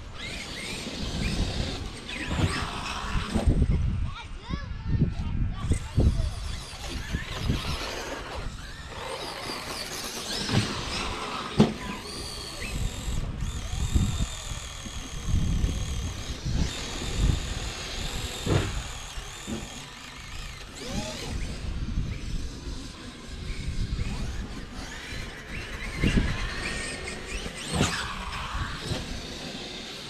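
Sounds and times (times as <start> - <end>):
rc car motors whining: 0.0 - 30.0.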